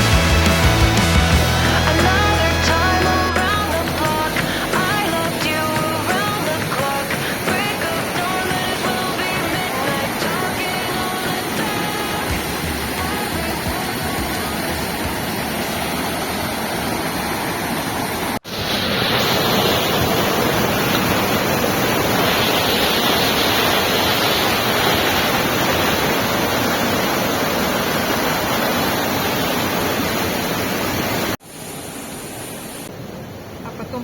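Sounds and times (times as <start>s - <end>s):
waterfall roaring: 0.0s - 34.0s.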